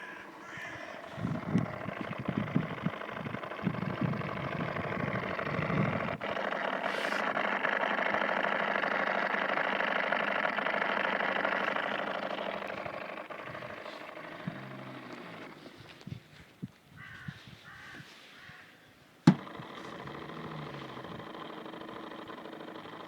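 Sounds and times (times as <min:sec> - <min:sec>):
headlight rasping buzz: 0:00.0 - 0:16.2, 0:19.3 - 0:23.0.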